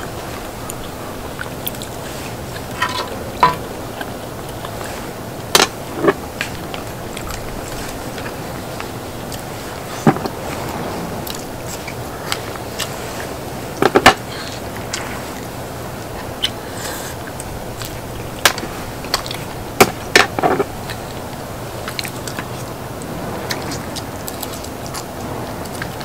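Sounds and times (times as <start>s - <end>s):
steady low hiss: 0.0s - 26.0s.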